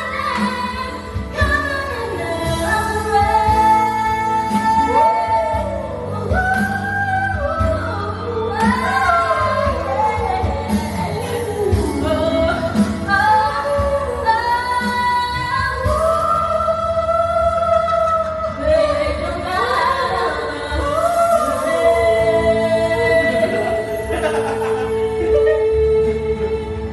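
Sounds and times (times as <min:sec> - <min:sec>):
backing music with bass line: 0:00.0 - 0:26.9
woman singing: 0:00.0 - 0:26.9.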